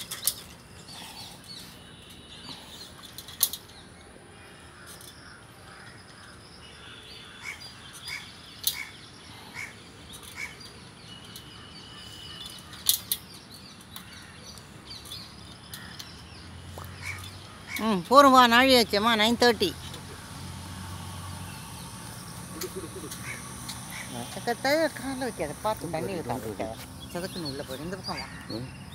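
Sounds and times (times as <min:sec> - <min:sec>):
birdsong: 0:00.0 - 0:28.9.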